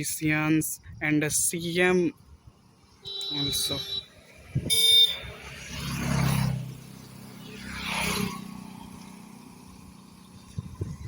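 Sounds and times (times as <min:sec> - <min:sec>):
vehicles passing by: 0:00.7 - 0:11.0.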